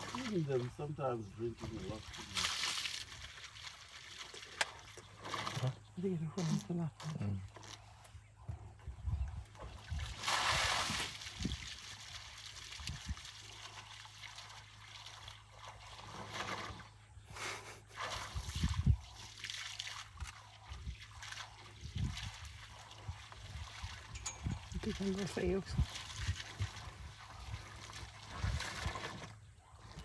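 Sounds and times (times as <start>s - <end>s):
elephant splashing water: 0.0s - 6.6s, 9.5s - 17.0s, 17.8s - 30.0s.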